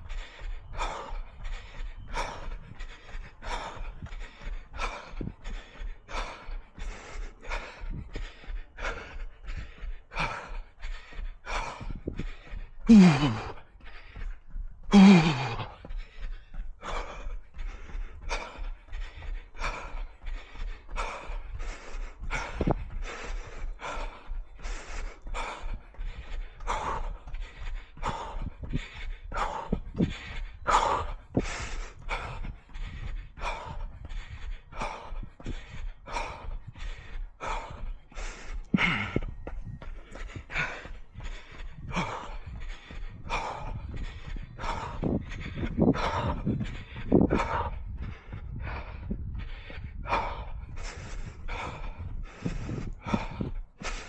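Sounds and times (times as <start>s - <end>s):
heavy rhythmic panting: 0.0s - 54.0s.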